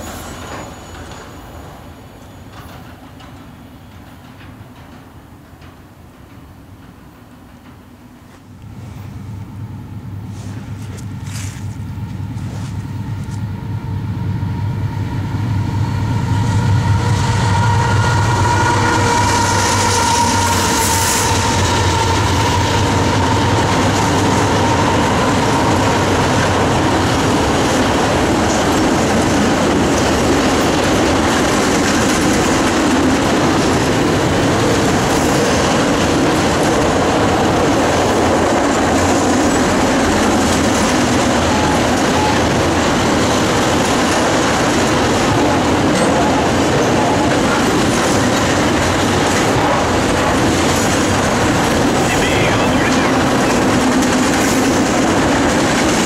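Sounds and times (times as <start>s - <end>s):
clickety-clack of rail joints: 0.0s - 9.6s, 10.2s - 13.5s, 16.8s - 56.0s
diesel locomotive engine: 0.0s - 56.0s
train wheels rumbling on rail: 0.0s - 56.0s.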